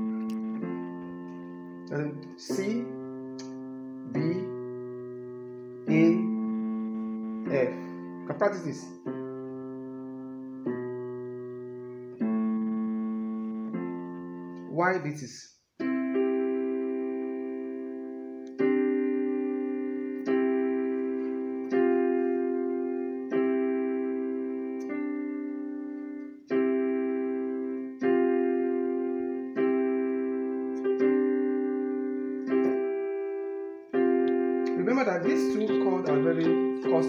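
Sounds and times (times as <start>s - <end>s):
electronic keyboard piano chords: 0.0s - 37.0s.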